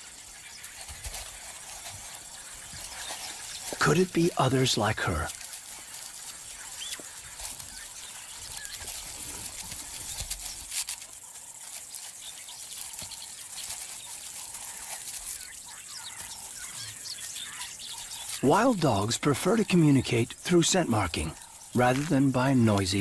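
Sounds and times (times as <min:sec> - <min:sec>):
steady high hiss: 0:01.6 - 0:12.8, 0:13.6 - 0:23.0.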